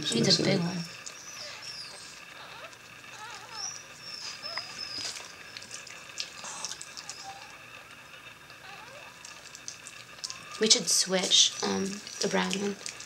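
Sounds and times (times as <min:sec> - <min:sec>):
puppies squeaking: 0:00.0 - 0:07.9, 0:08.5 - 0:13.0.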